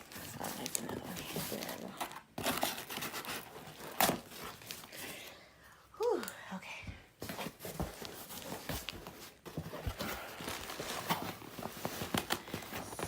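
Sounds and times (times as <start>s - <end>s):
packaging rustling: 0.0s - 5.1s, 7.2s - 13.0s.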